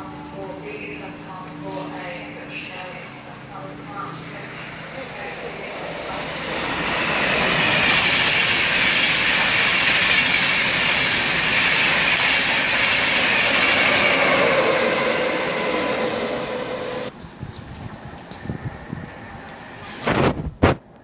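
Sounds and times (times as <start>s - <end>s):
train passing at speed: 0.0s - 20.4s.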